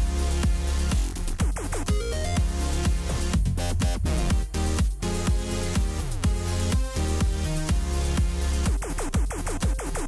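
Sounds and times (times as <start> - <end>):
electronic background music: 0.0 - 10.0
steady kick drum beat: 0.0 - 10.0.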